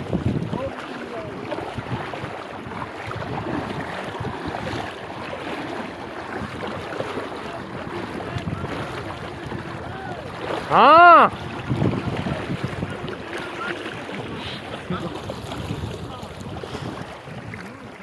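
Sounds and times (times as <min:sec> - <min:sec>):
river water rushing and splashing: 0:00.0 - 0:18.0
wind on microphone: 0:00.0 - 0:18.0.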